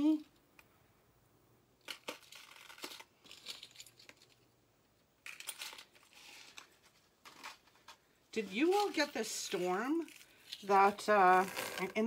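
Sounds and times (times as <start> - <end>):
jewelry rustling and clinking: 1.8 - 12.0.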